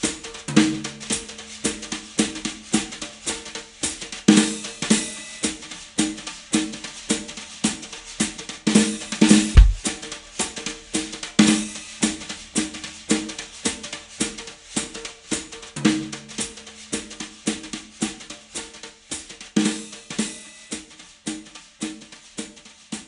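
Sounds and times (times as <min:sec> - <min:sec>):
music with drum kit beat: 0:00.0 - 0:23.0.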